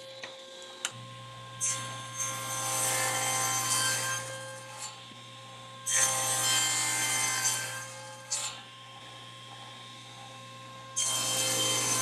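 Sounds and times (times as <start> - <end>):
saw running with steady hum: 0.0 - 12.0
table saw cutting wood: 0.0 - 12.0.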